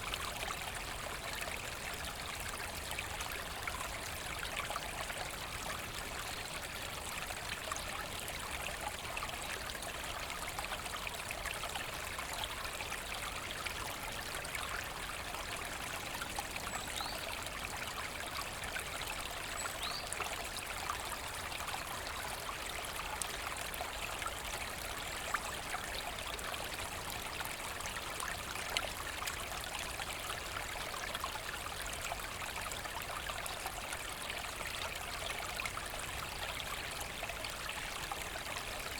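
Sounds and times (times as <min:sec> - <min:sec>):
brook water trickling: 0:00.0 - 0:38.9.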